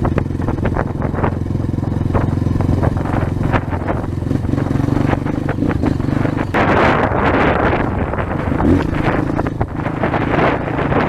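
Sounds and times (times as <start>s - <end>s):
dirt bike engine running: 0.0s - 11.0s
wind noise on microphone: 0.0s - 11.0s.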